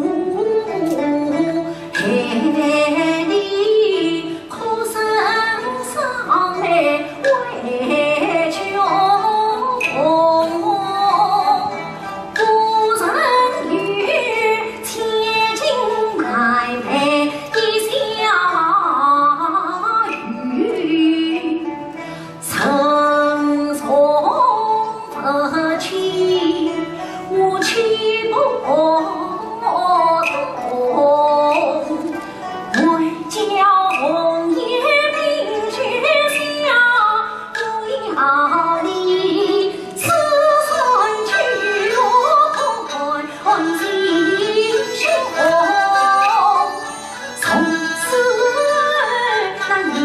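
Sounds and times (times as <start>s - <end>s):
woman singing opera: 0.0s - 11.7s, 12.4s - 21.7s, 22.5s - 50.0s
instrumental accompaniment: 0.0s - 50.0s.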